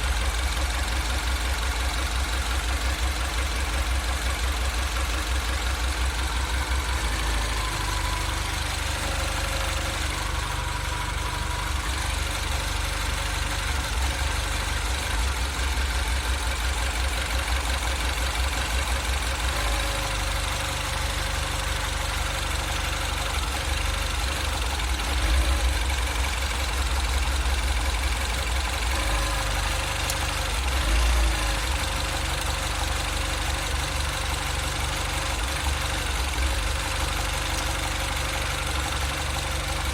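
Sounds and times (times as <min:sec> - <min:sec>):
car engine idling roughly: 0:00.0 - 0:39.9.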